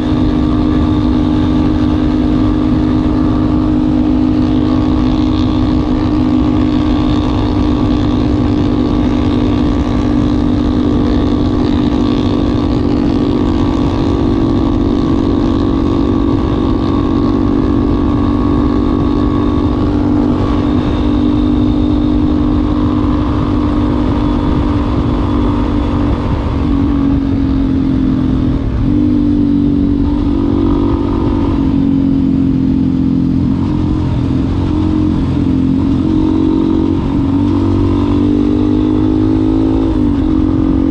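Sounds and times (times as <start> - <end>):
single-cylinder motorcycle engine: 0.0 - 40.9.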